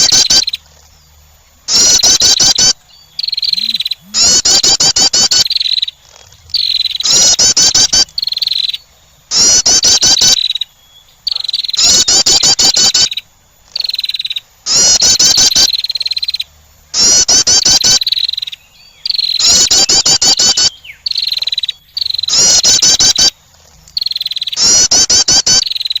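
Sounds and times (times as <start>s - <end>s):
wren call: 0.0s - 26.0s.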